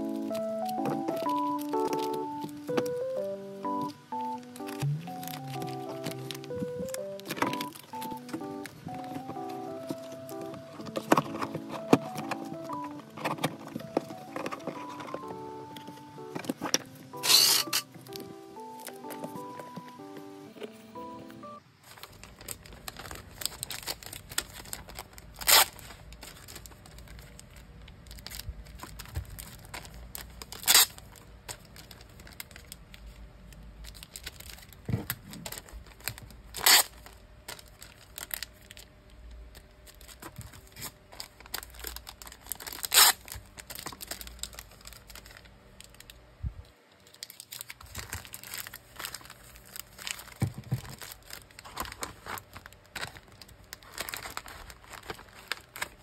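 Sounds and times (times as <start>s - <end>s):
plastic bags crinkling: 0.0s - 19.6s, 21.8s - 56.0s
plastic tearing: 4.2s - 18.2s, 21.8s - 33.1s, 33.8s - 38.9s, 39.5s - 46.2s, 47.0s - 56.0s.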